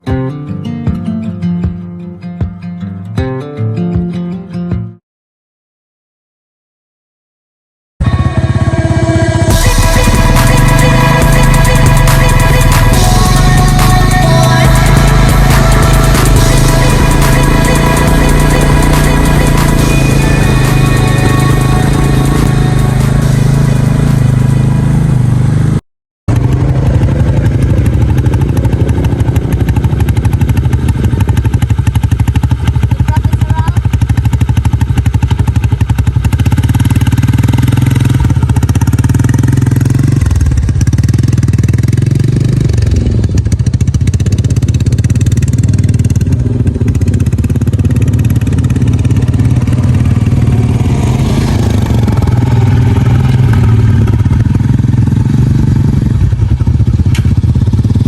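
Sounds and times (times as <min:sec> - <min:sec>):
atv engine droning: 0:08.0 - 0:58.0.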